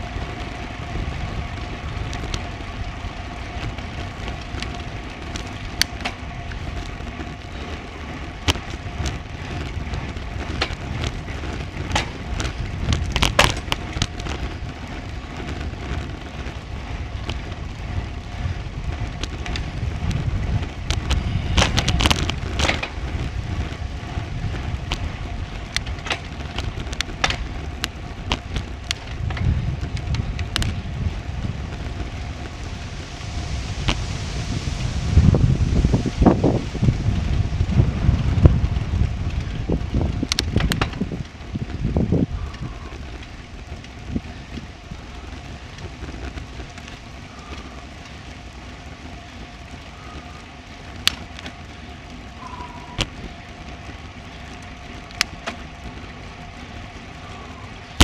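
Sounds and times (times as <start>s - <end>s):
bike clicks and rattles: 0.0s - 58.0s
bike riding rumble: 0.0s - 58.0s
wind hiss: 0.0s - 58.0s.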